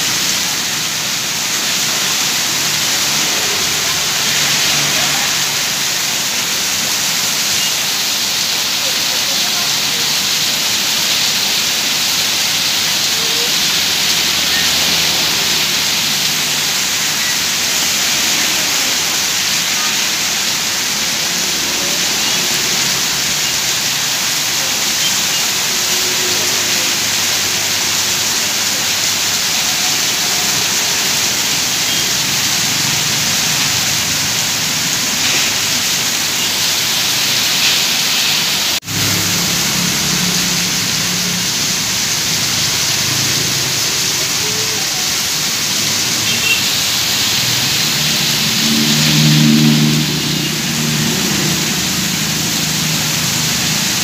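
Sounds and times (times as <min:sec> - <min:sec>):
runoff pouring off roof: 0:00.0 - 0:54.0
torrential rain on street: 0:00.0 - 0:54.0.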